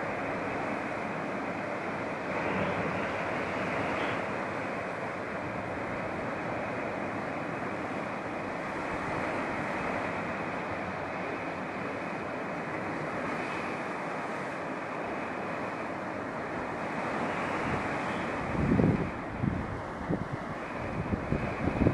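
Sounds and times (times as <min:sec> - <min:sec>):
surf breaking over rocks: 0:00.0 - 0:21.9.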